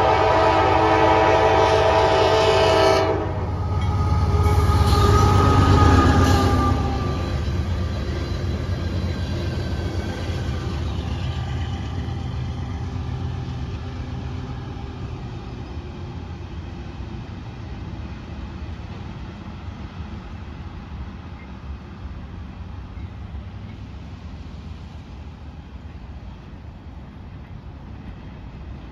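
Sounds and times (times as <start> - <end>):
freight train rumbling: 0.0 - 28.9.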